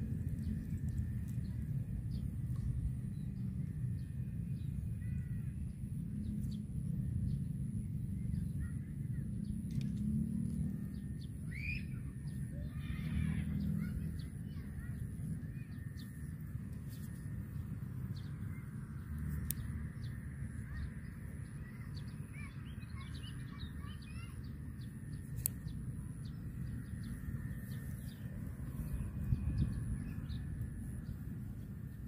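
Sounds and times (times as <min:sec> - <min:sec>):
low outdoor rumble: 0:00.0 - 0:32.0
small birds chirping: 0:00.0 - 0:32.0.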